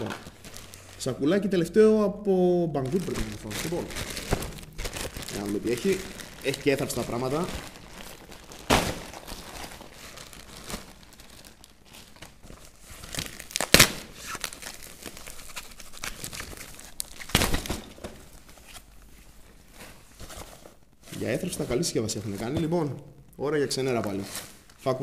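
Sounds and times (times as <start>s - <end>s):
plastic and foam wrap crinkling: 0.0s - 1.6s, 2.8s - 25.0s.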